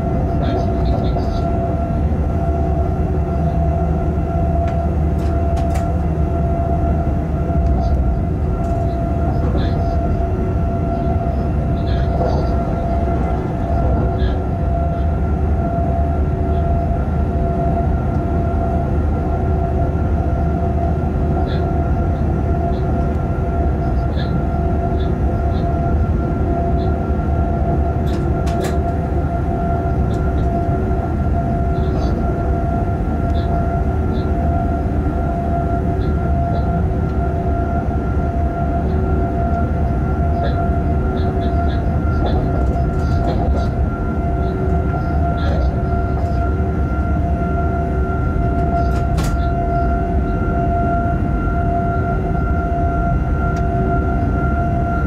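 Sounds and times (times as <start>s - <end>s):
constant tonal hum: 0.0s - 55.0s
train wheels rumbling on rails: 0.0s - 55.0s.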